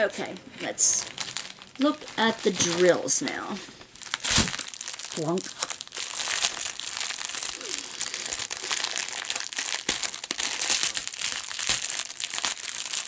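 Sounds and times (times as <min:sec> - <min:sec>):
plastic wrapping crinkling: 0:00.2 - 0:13.0.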